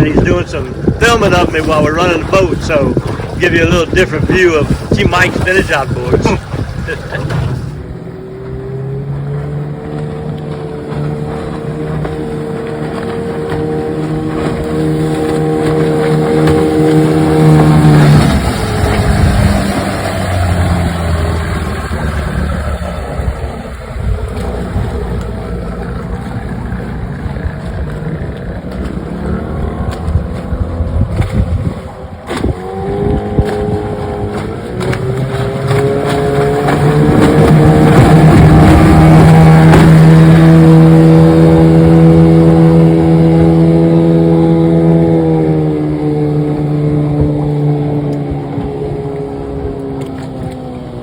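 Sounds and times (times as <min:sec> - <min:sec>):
outboard motor running: 0:00.0 - 0:51.0.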